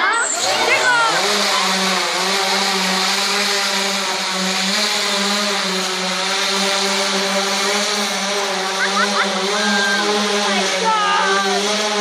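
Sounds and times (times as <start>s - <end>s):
propellers buzzing hum: 0.0s - 12.0s.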